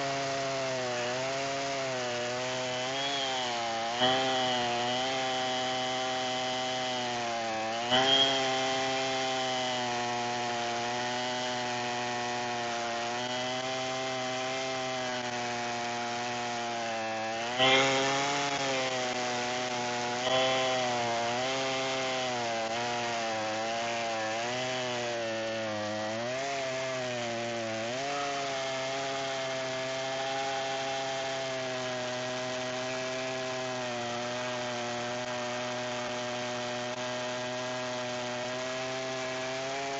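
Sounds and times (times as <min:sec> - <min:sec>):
chainsaw ripping through log: 0:00.0 - 0:39.9.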